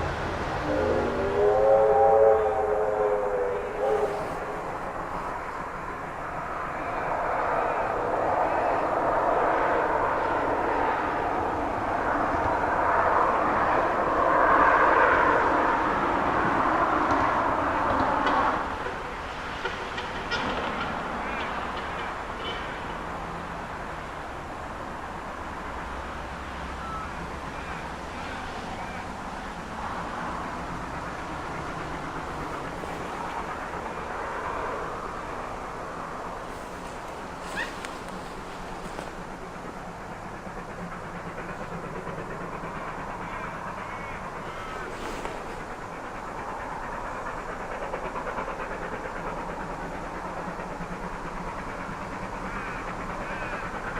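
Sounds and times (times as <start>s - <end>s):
steam train running at speed: 0.0s - 53.9s.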